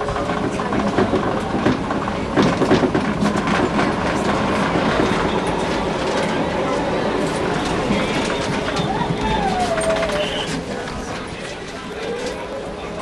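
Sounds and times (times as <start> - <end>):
tram running on track: 0.0 - 13.0
wheels clattering over rail joints: 0.0 - 13.0.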